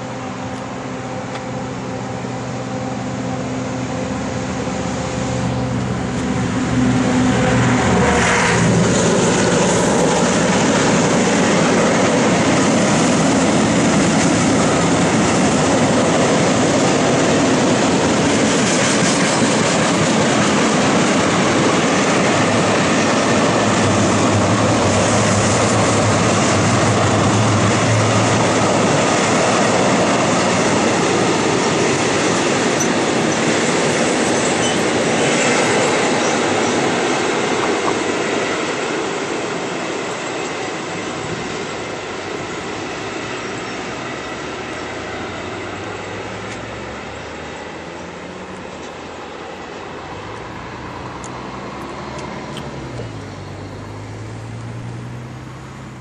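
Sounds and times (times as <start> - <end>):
freight train rumbling past: 0.0 - 56.0
wheels on rails: 5.8 - 56.0.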